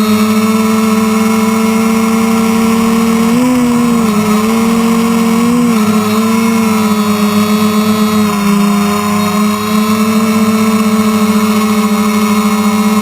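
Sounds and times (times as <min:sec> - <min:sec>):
quadcopter propellers buzzing: 0:00.0 - 0:13.0.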